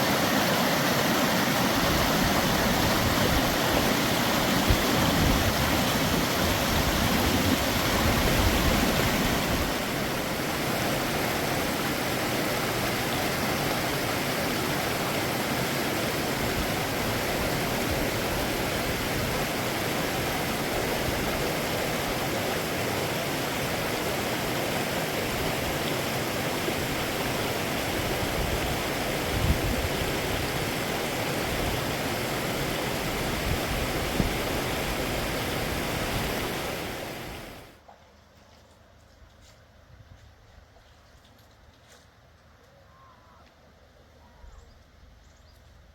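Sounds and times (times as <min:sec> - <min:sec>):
stream water rushing: 0:00.0 - 0:37.8.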